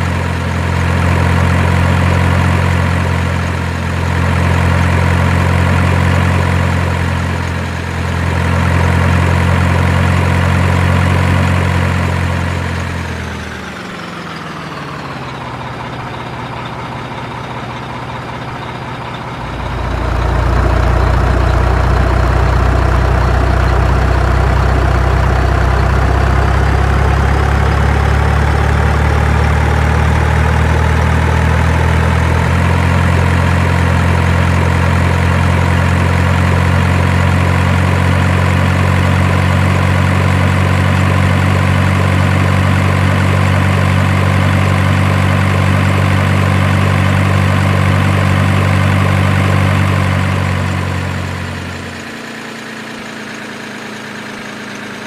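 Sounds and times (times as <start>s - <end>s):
heavy engine idling: 0.0s - 55.0s.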